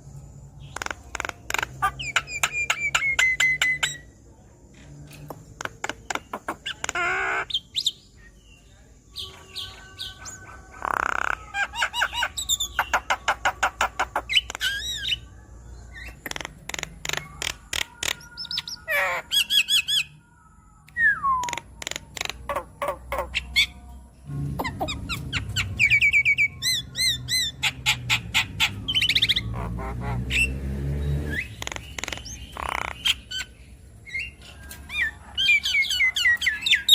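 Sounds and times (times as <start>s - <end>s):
myna bird singing: 0.0s - 36.9s.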